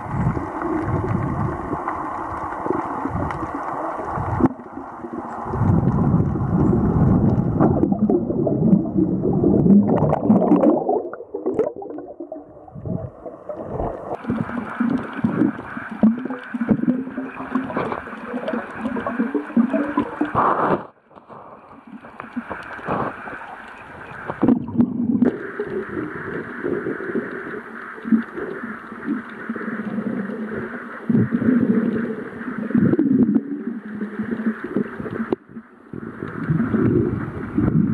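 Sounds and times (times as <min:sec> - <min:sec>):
underwater sloshing and gurgling: 0:00.0 - 0:37.9.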